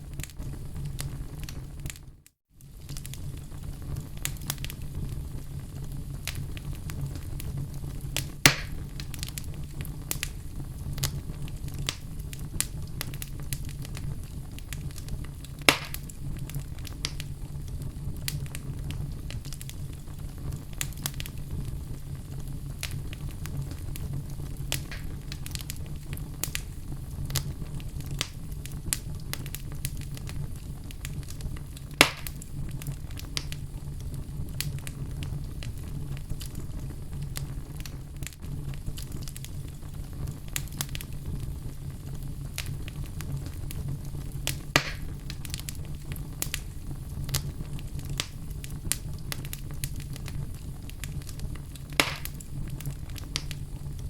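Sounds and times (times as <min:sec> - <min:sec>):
fire crackling: 0:00.0 - 0:54.0
loud fire snaps: 0:00.0 - 0:54.0.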